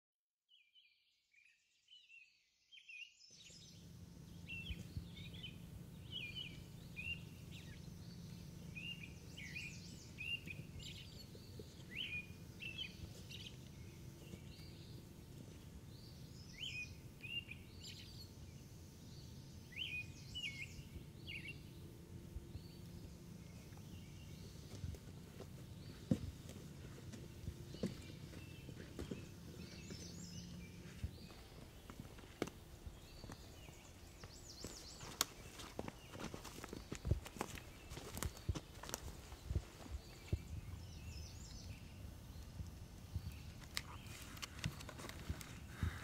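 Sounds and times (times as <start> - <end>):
small birds chirping: 0.5 - 46.0
low outdoor background hiss: 3.0 - 46.0.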